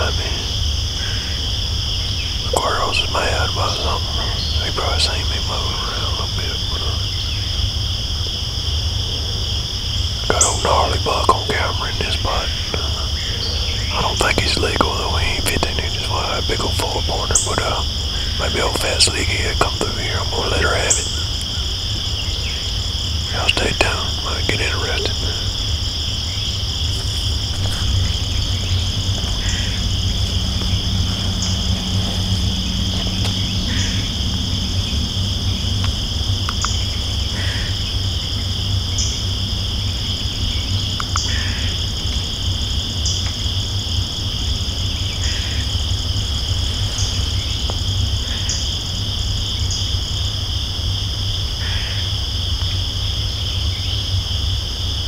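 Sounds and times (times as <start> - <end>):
low steady rumble: 0.0 - 54.8
insects buzzing drone: 0.0 - 55.0
short repeating insect call: 0.0 - 55.0.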